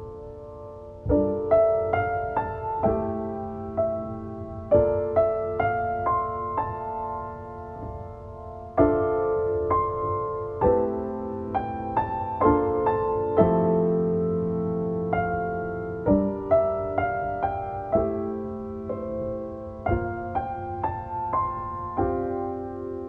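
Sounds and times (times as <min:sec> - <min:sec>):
gentle solo piano piece: 0:00.0 - 0:23.0.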